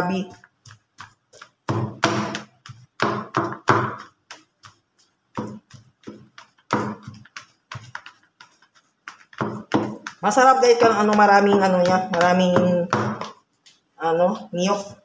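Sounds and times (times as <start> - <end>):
dull pounding thuds in bowl: 0.0 - 13.4.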